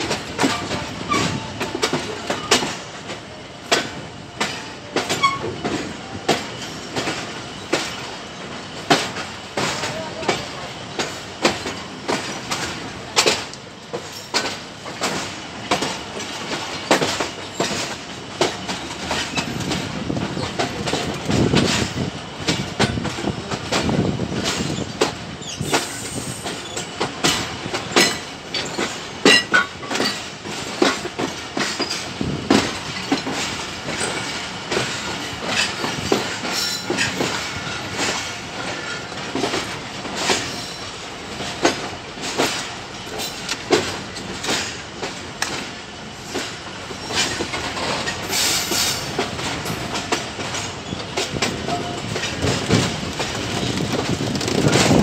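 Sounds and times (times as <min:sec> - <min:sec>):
train rolling rumble: 0:00.0 - 0:55.0
train wheels clattering: 0:00.0 - 0:55.0.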